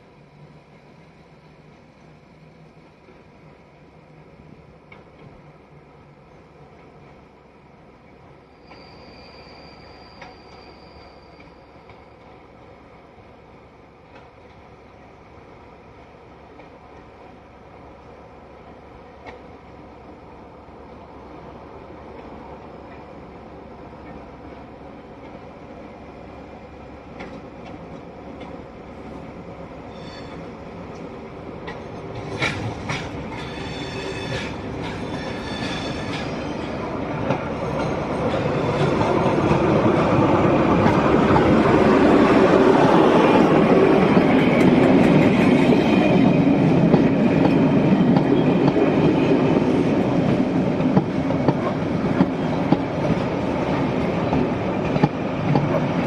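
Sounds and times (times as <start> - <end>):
diesel train passing at speed: 0.0 - 56.0.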